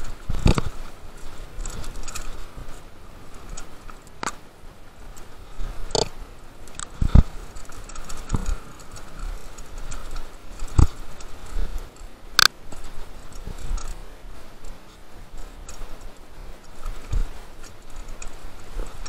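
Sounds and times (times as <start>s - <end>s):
mountain bike rattling: 0.0s - 19.0s.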